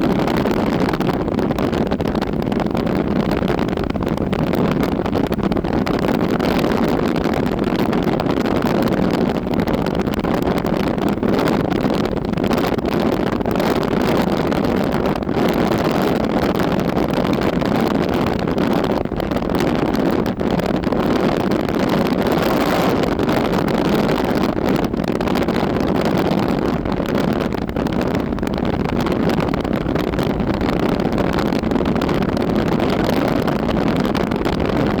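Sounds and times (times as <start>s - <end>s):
wind blowing: 0.0s - 35.0s.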